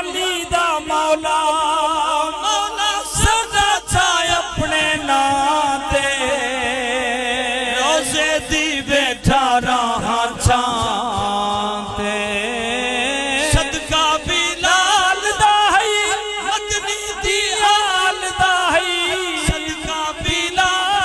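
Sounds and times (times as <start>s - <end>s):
man chanting through loudspeakers: 0.0s - 21.0s.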